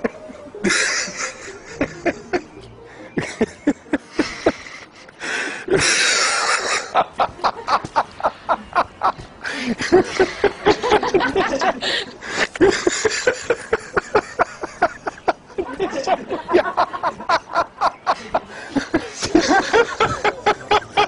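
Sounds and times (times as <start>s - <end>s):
people laughing heartily: 0.0s - 21.0s.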